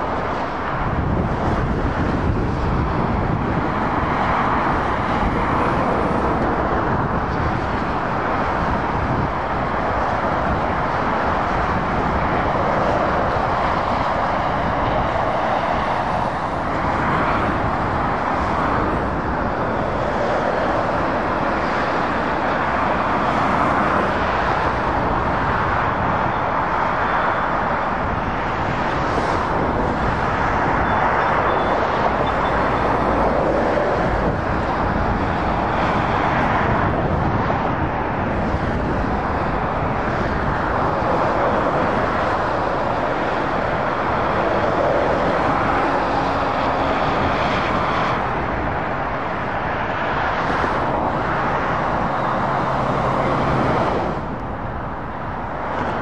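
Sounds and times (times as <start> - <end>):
traffic passing: 0.0 - 56.0.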